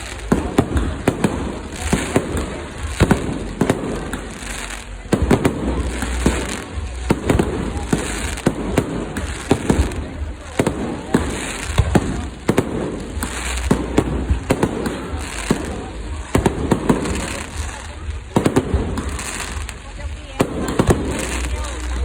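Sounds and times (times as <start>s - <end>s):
fireworks bangs: 0.0s - 22.0s
low rumble of fireworks: 0.0s - 22.0s.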